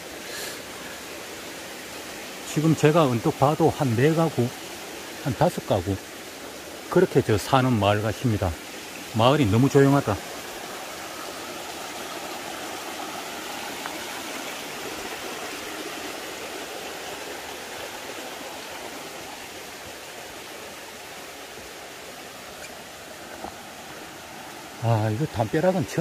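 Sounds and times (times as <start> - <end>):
mountain stream flowing: 0.0 - 26.0.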